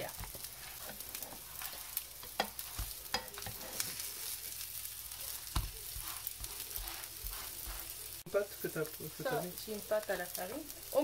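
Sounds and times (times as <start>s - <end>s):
cheese being sprinkled: 0.0s - 11.0s.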